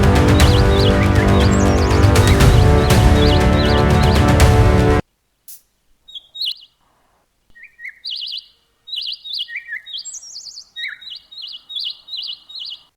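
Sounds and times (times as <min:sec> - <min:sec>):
birds chirping: 0:00.0 - 0:05.0, 0:06.0 - 0:12.9.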